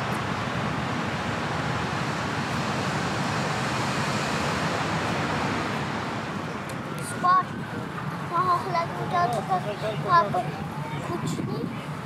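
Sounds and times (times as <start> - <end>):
steady outdoor rumble: 0.0 - 12.0.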